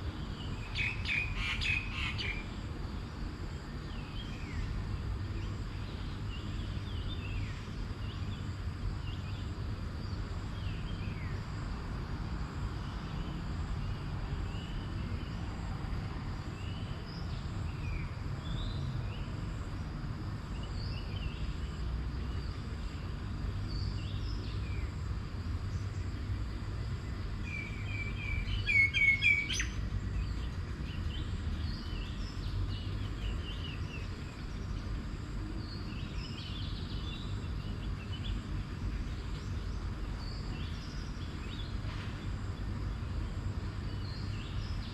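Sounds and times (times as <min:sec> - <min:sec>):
wild birds chirping: 0:00.0 - 0:11.6, 0:12.6 - 0:44.9.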